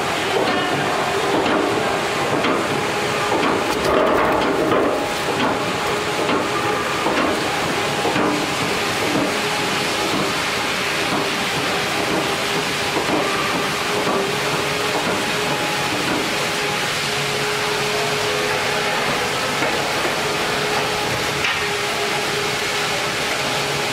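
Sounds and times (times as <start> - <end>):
log conveyor machinery running: 0.0 - 23.9.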